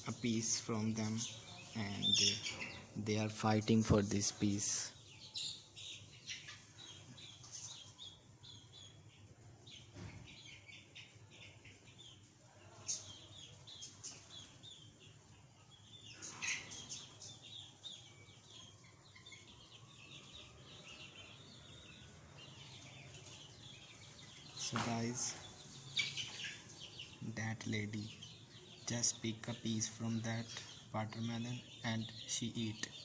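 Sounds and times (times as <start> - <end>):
young chickens peeping: 0.0 - 33.0.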